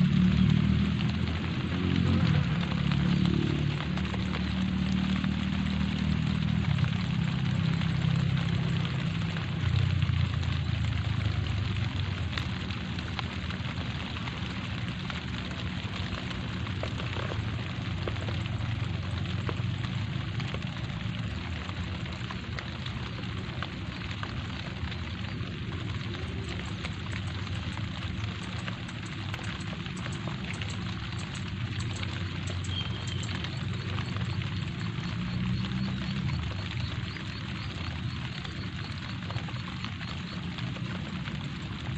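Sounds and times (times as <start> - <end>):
light rain on leaves: 0.0 - 41.9.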